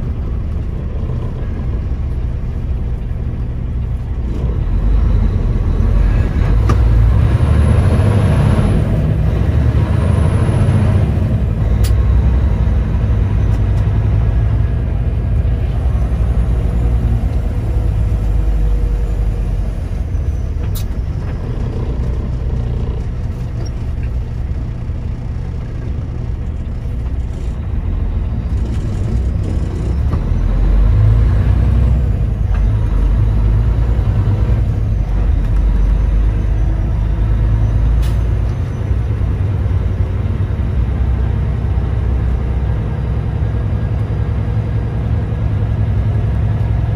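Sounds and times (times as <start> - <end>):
diesel truck engine rumble: 0.0 - 46.9.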